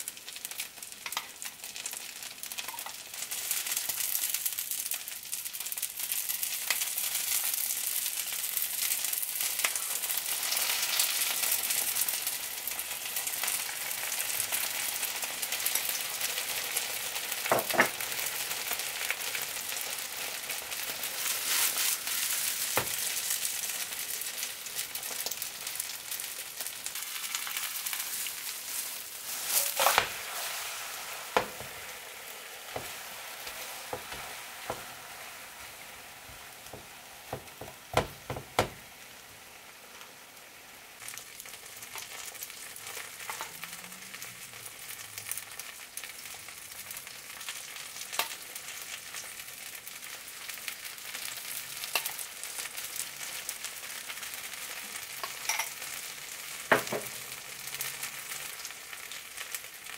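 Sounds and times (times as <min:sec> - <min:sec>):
pancake sizzling in oil: 0:00.0 - 0:59.9.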